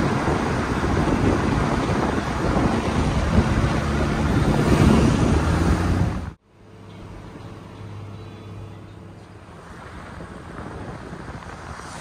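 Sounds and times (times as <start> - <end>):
low engine hum: 0.0 - 12.0
rushing wind and tyre noise: 0.0 - 12.0.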